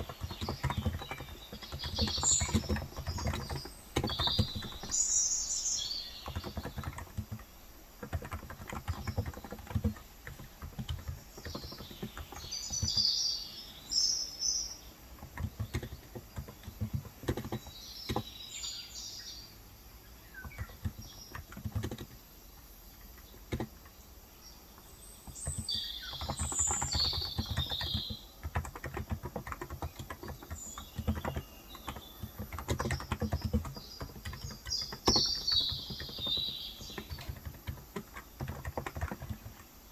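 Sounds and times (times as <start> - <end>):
keyboard typing: 0.0 - 13.3, 15.0 - 18.5, 20.3 - 24.0, 24.8 - 39.9
birds chirping: 0.0 - 39.9.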